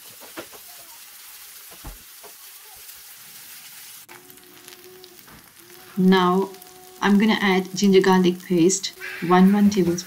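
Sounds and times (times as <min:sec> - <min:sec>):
onions sizzling in pan: 0:00.0 - 0:10.0.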